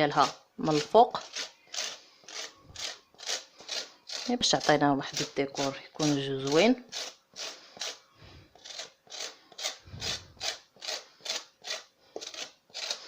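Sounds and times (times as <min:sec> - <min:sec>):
lemon rasping on metal grater: 0:00.0 - 0:08.0, 0:08.6 - 0:13.0.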